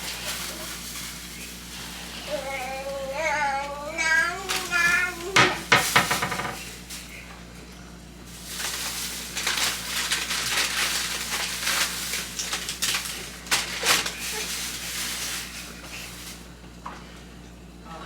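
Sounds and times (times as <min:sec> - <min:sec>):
household items clattering: 0:00.0 - 0:07.2, 0:08.2 - 0:16.5.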